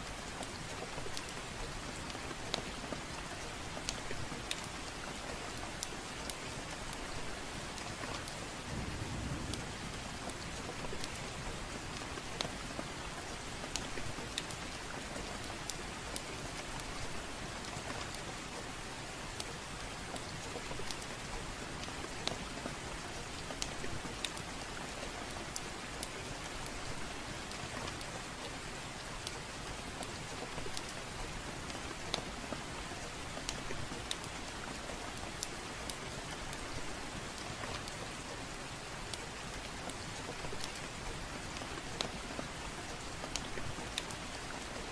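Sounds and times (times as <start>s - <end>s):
steady soft rain: 0.0s - 44.9s
wood fire crackling: 0.2s - 44.9s.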